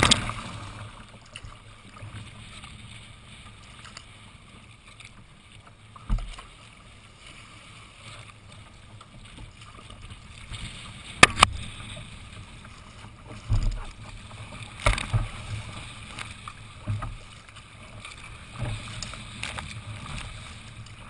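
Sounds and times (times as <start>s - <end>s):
water sloshing against kayak hull: 0.0s - 21.0s.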